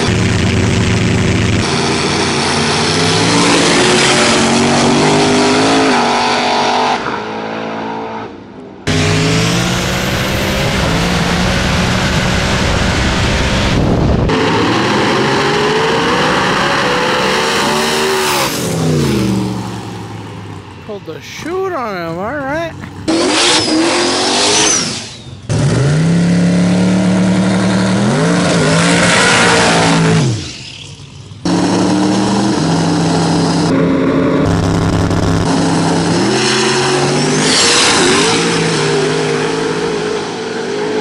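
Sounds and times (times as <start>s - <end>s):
drag car engines at full throttle: 0.0s - 41.0s.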